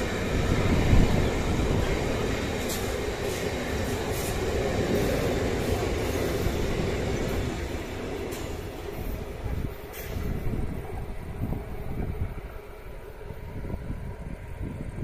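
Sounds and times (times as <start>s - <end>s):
steel wheels rumbling on rails: 0.0s - 15.0s.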